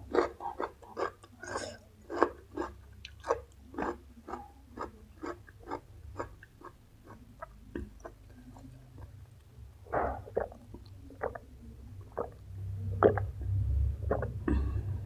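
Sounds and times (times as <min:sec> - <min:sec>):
chewing crunchy food: 0:00.0 - 0:12.4.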